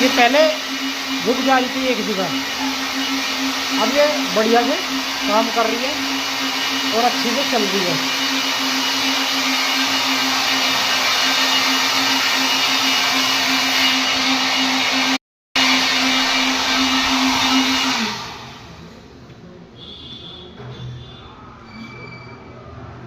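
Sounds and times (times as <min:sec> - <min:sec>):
machine humming and hissing: 0:00.0 - 0:18.8.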